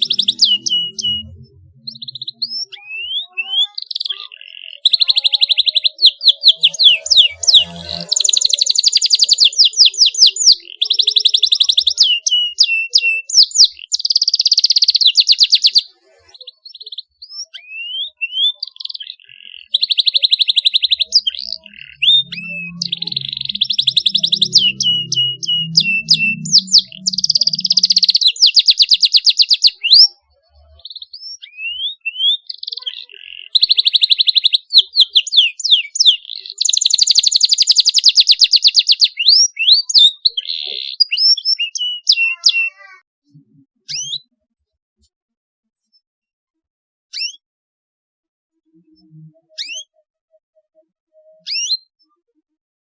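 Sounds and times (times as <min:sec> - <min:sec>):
canary singing trills: 0:00.0 - 0:43.0, 0:43.8 - 0:44.4, 0:47.1 - 0:47.4, 0:48.6 - 0:52.4.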